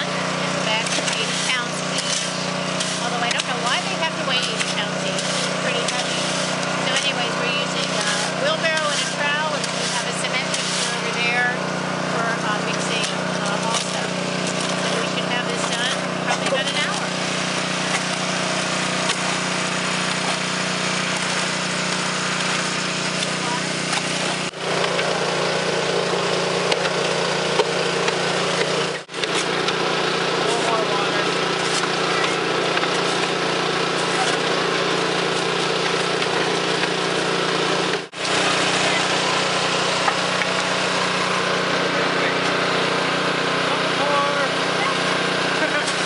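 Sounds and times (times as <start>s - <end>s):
mortar mixer engine running: 0.0s - 46.0s.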